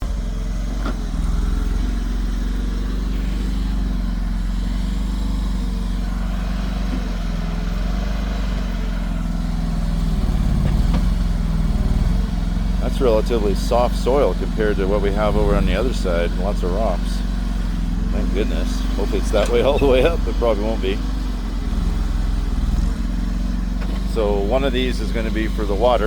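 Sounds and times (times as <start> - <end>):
mini excavator engine running: 0.0 - 26.0.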